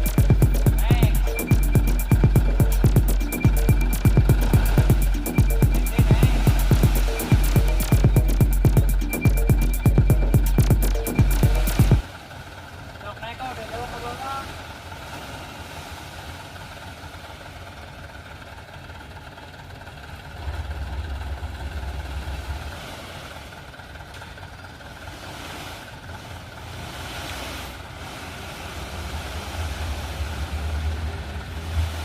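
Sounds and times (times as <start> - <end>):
dump truck engine revving: 0.0 - 32.0.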